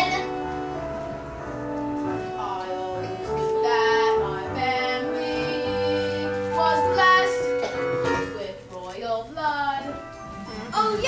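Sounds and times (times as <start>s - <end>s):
instrumental accompaniment: 0.0s - 11.0s.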